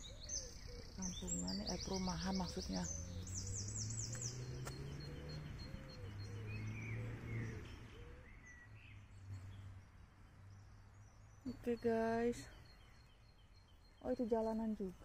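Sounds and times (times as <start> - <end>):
small songbirds singing: 0.0 - 15.0.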